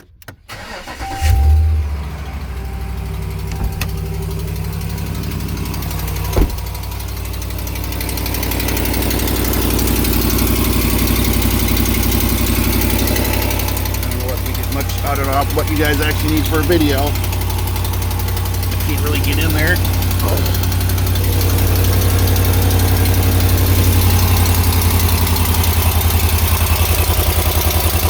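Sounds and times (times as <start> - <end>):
engine starting and idling: 0.0 - 28.0
exhaust leak ticking noise: 2.4 - 28.0.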